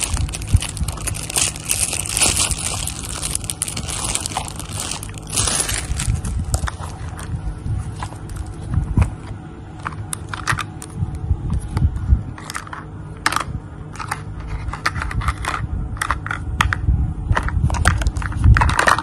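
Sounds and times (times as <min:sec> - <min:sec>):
low handling rumble: 0:00.0 - 0:18.8.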